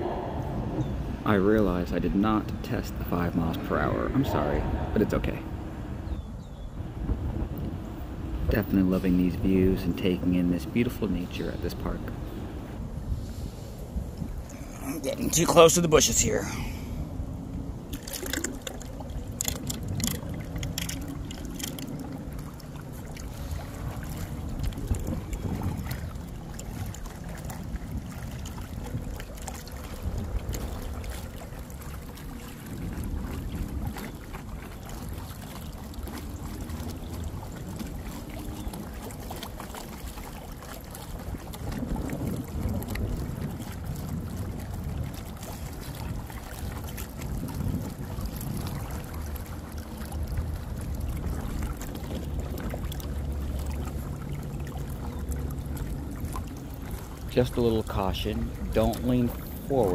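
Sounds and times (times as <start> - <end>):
water washing against hull: 0.0 - 59.9
wind on microphone: 0.0 - 59.9.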